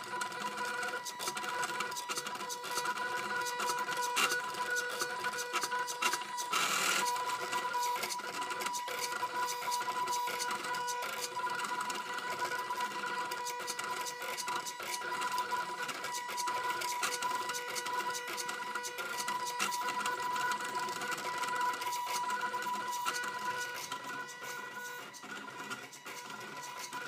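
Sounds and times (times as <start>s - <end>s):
stepper motors whining and ticking: 0.0s - 27.0s.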